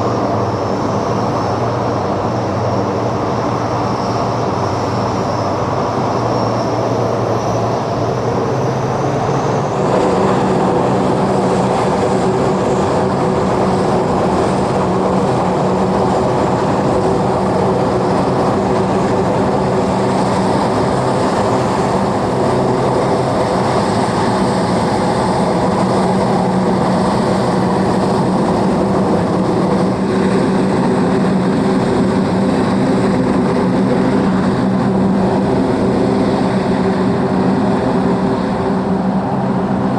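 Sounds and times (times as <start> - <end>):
aircraft engines droning: 0.0 - 39.9.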